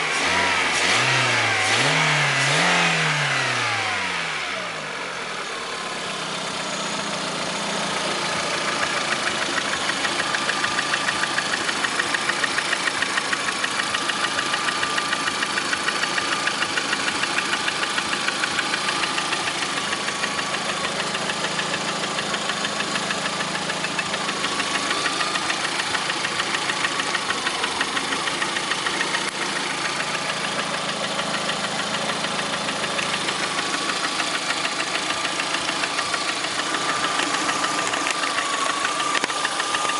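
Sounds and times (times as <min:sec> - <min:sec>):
car engine idling: 0:00.0 - 0:39.9
rapid regular engine knock: 0:05.5 - 0:39.9.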